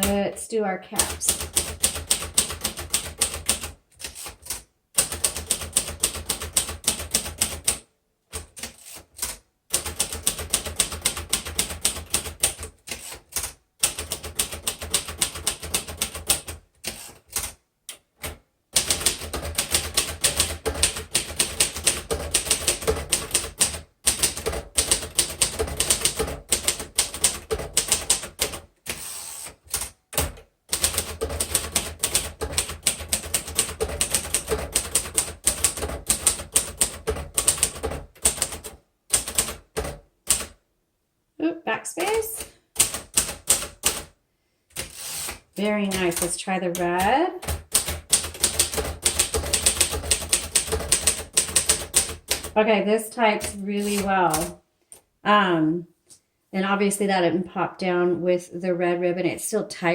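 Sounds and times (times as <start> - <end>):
manual typewriter clacking: 1.0 - 40.6, 42.0 - 52.6, 53.3 - 54.6.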